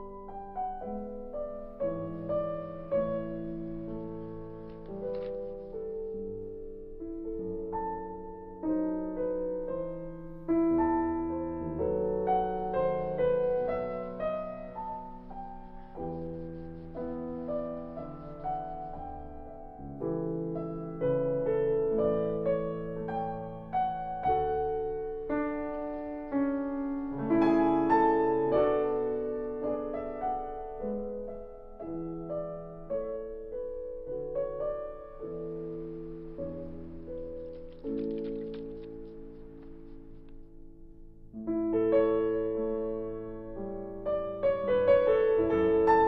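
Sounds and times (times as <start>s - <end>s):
solo piano music: 0.0s - 46.0s.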